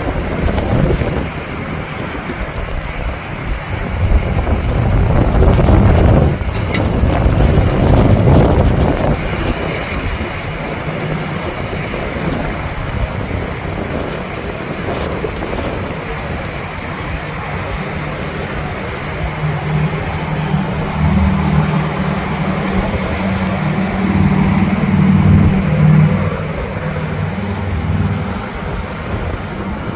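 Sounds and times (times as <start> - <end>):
boat engine running: 0.0 - 29.9
water wash: 0.0 - 29.9
wind buffeting microphone: 0.0 - 29.9.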